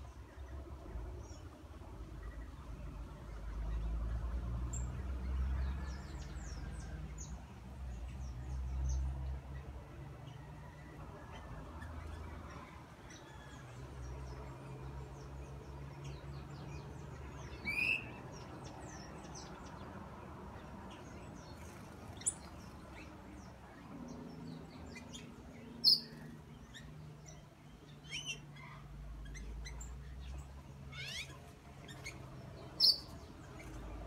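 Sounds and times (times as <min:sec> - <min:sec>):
birds chirping and calling: 0:05.8 - 0:34.0.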